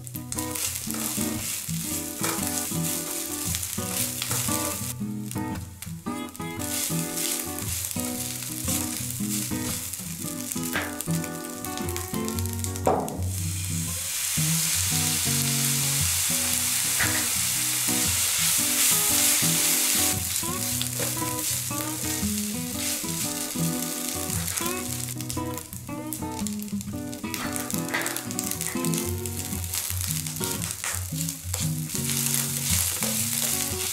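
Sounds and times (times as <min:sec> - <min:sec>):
rice sizzling in a pan: 0:00.0 - 0:33.9
sauce sizzling in hot pan: 0:00.0 - 0:33.9.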